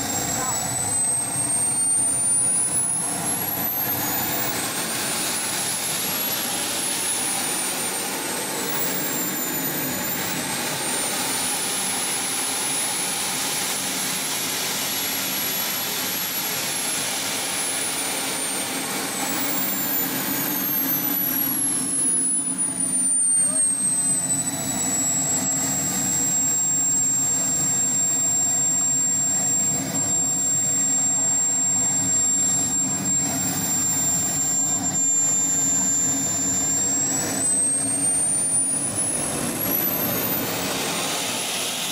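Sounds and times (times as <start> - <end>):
model jet turbine whining: 0.0 - 41.9.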